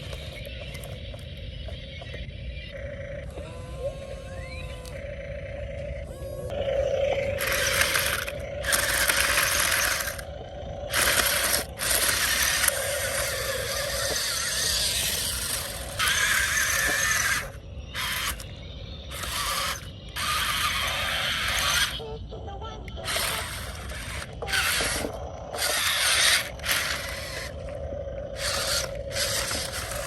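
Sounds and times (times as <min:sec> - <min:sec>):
steady low hum: 0:00.0 - 0:30.0
machinery clattering and rasping: 0:02.8 - 0:22.1, 0:23.0 - 0:30.0.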